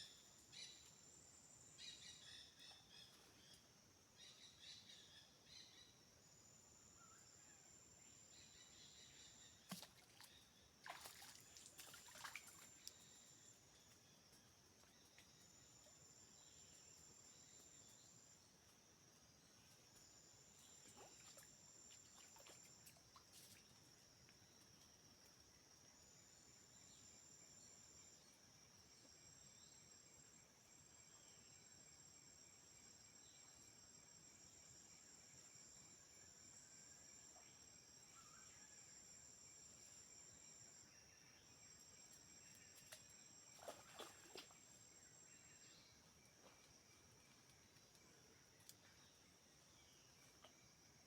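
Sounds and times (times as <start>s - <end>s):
insects chorus: 0.0s - 51.0s.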